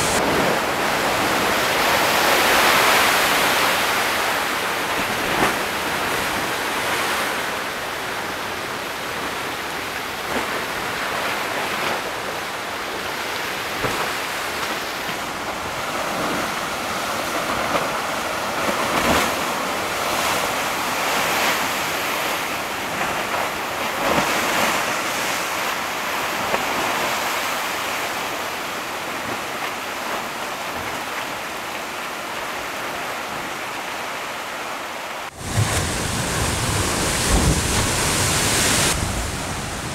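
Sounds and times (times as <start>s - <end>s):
surf crashing over rocks: 0.0s - 34.3s, 35.2s - 39.9s.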